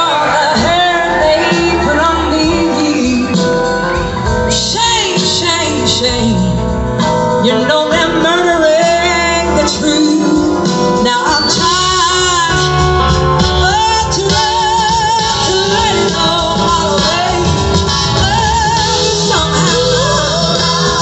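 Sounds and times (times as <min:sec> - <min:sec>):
person singing: 0:00.0 - 0:06.6, 0:07.4 - 0:21.0
live blues-rock band: 0:00.0 - 0:21.0.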